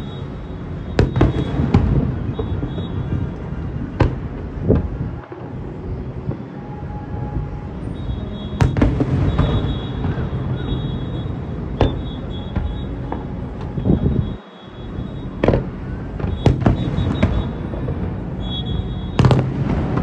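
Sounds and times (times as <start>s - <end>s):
fireworks bangs: 0.0s - 20.0s
fireworks rumble and crackle: 0.0s - 20.0s.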